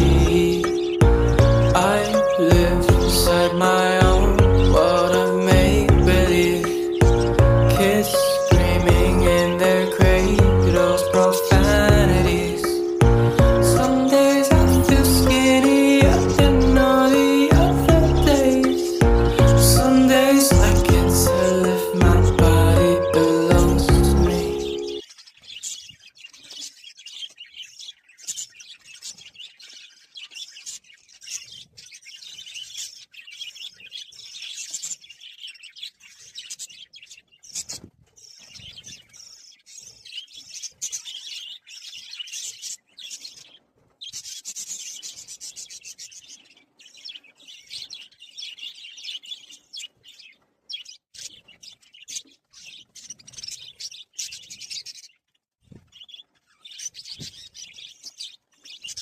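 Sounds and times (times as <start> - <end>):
budgerigars chattering and chirping: 0.0 - 55.2, 55.8 - 59.0.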